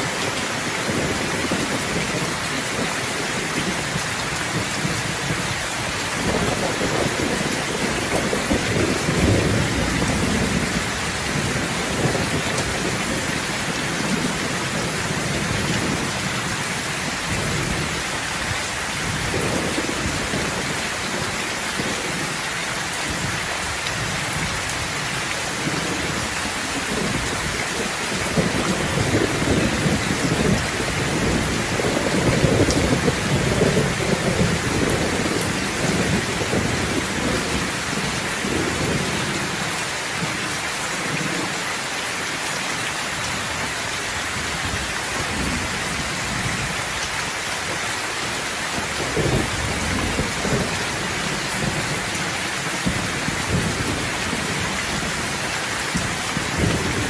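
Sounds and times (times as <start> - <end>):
thunder rumbling: 0.0 - 22.3, 23.1 - 40.3, 48.7 - 57.0
steady rainfall: 0.0 - 57.0.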